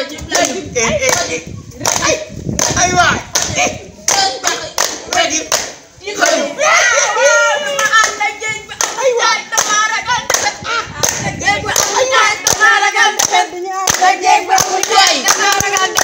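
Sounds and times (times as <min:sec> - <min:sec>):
group clapping in rhythm: 0:00.0 - 0:06.6, 0:07.8 - 0:16.0
group singing call-and-response chant: 0:00.0 - 0:16.0.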